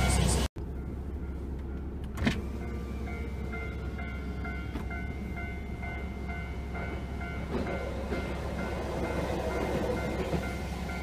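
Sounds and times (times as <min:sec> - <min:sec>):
level crossing warning bell ringing: 0:00.6 - 0:11.0.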